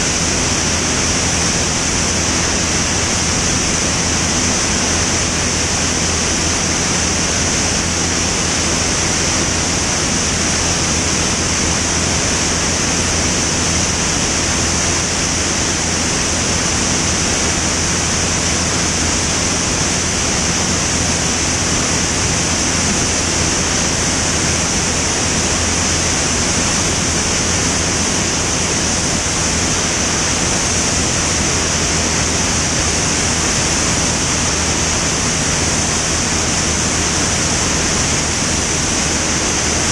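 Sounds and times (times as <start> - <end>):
aircraft engine and propeller drone: 0.0 - 39.9
rushing wind: 0.0 - 39.9.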